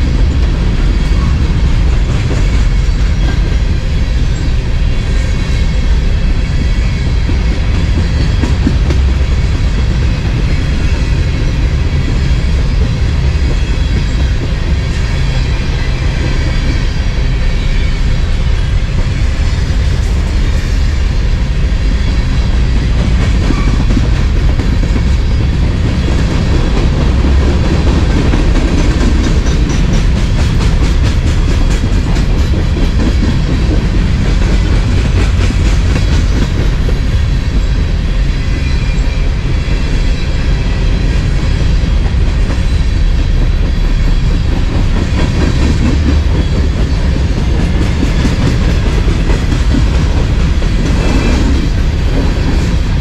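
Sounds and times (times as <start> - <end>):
steel train wheels rumbling on rail: 0.0 - 53.0.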